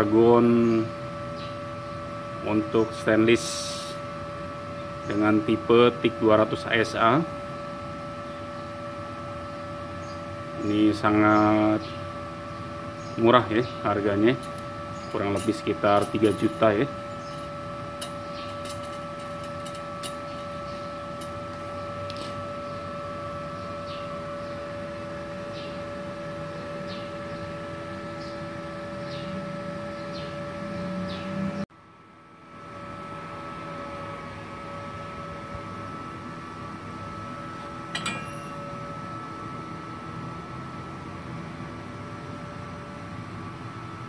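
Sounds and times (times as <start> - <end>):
welder electrical whine: 0.0 - 44.0.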